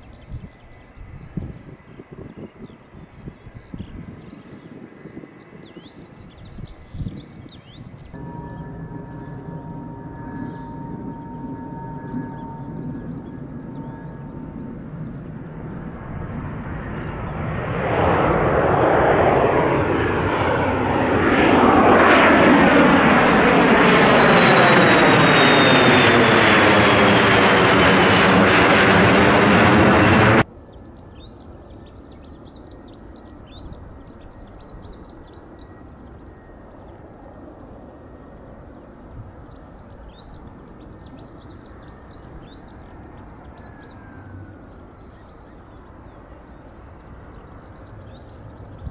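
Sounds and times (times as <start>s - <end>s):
birds chirping: 0.0s - 37.2s, 37.8s - 48.9s
aircraft engines passing: 0.0s - 48.9s.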